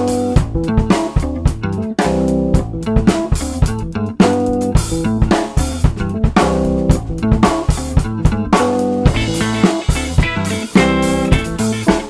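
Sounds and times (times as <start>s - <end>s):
bass guitar: 0.0s - 12.0s
drum kit groove: 0.0s - 12.0s
electric guitar: 0.0s - 12.0s.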